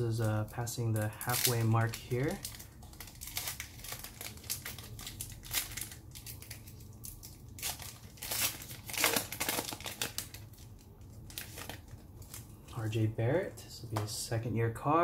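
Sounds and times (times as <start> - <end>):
foil wrapper tearing and crinkling: 0.3 - 12.5.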